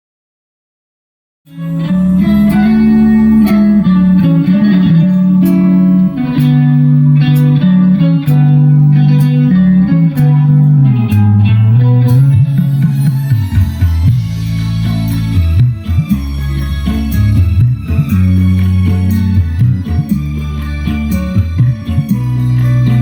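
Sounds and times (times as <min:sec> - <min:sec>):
deep sustained bass notes: 0:01.5 - 0:23.0
plucked-string melody: 0:01.5 - 0:23.0.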